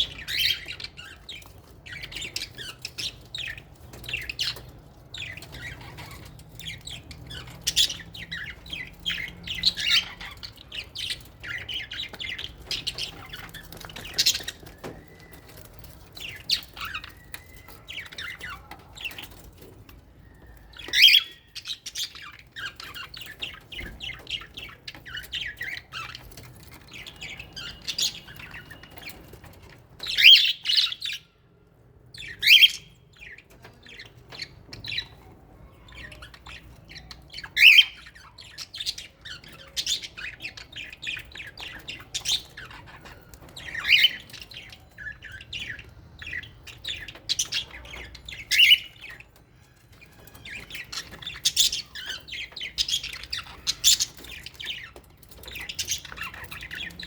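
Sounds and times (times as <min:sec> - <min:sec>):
birds chattering and chirping: 0:00.0 - 0:57.0.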